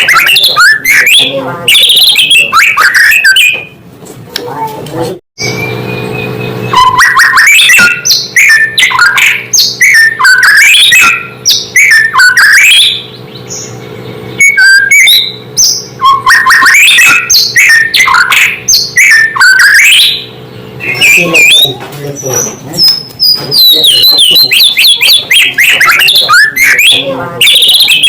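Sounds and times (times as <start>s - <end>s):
bird singing whistled song: 0.0s - 3.7s, 5.4s - 28.0s.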